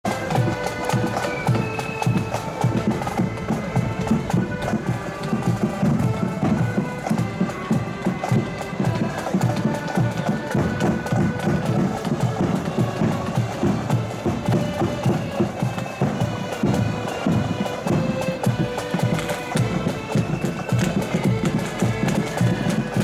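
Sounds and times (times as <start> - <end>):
accordion melody: 0.0 - 23.0
steady drum beat: 0.1 - 23.0.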